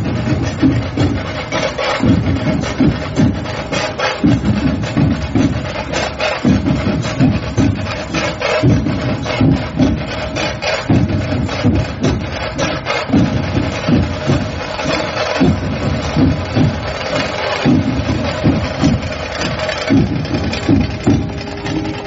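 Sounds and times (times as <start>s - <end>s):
loud music with driving drum beat: 0.0s - 22.0s.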